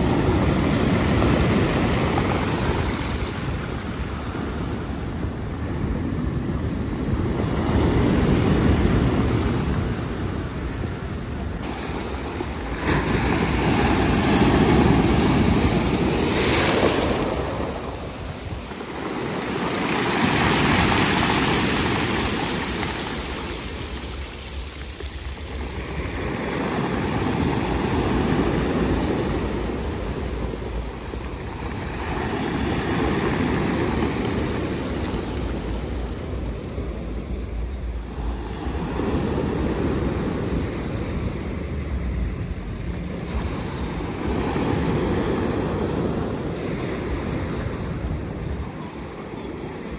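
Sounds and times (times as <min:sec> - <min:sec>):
sea waves washing onto shore: 0:00.0 - 0:49.9
wind on microphone: 0:00.0 - 0:49.9.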